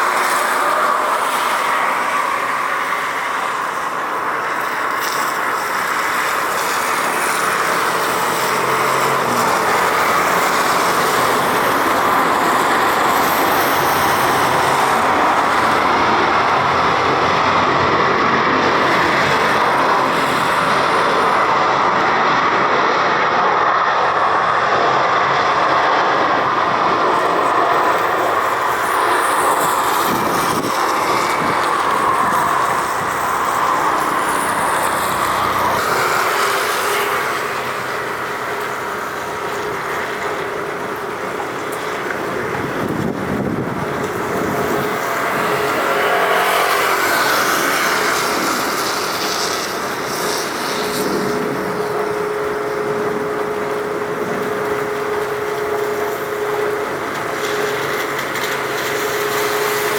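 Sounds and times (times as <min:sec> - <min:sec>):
jet airliner engine noise: 0:00.0 - 0:59.9.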